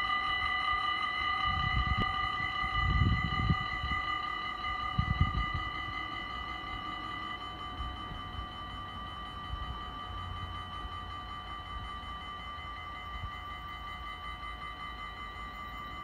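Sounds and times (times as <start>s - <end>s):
level-crossing bells chiming: 0.0s - 16.0s.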